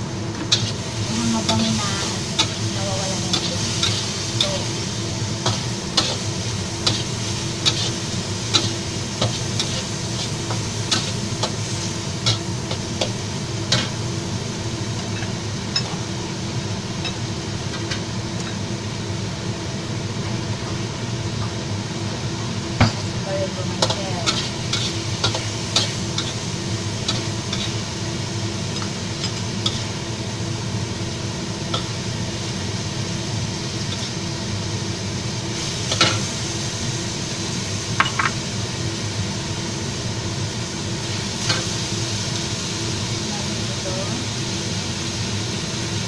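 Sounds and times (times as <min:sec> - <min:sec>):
food sizzling in a wok: 0:00.0 - 0:46.0.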